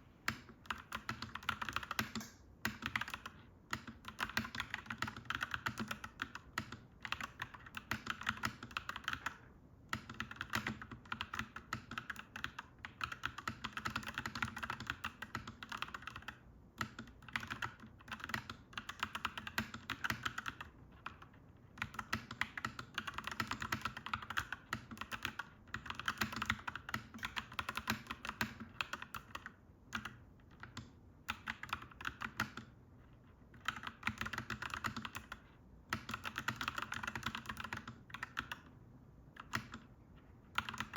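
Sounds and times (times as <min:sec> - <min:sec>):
typing on mechanical keyboard: 0:00.2 - 0:39.9, 0:40.5 - 0:40.9.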